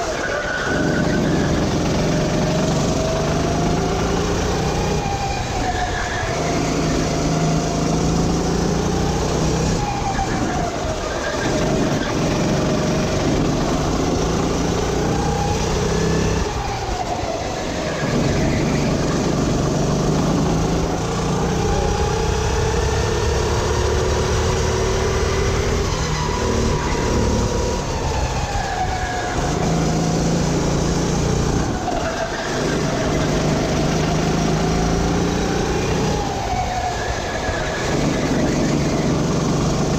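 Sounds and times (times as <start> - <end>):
kart engine at race pace: 0.0 - 39.9.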